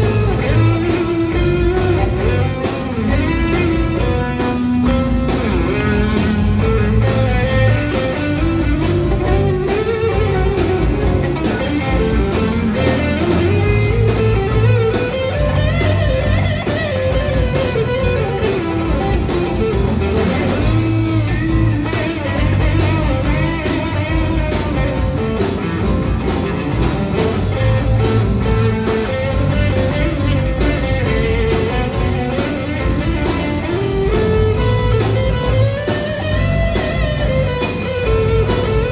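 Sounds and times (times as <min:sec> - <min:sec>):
bass: 0:00.0 - 0:38.9
electric guitar melody: 0:00.0 - 0:38.9
keyboards: 0:00.0 - 0:38.9
steady drum beat: 0:00.0 - 0:38.9.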